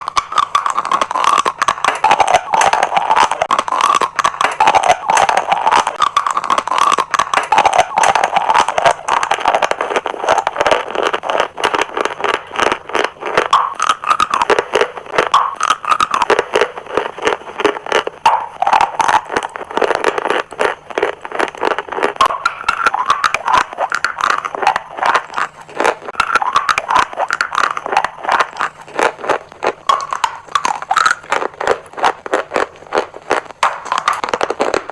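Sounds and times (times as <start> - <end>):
dry chalk crunching: 0.0 - 34.9.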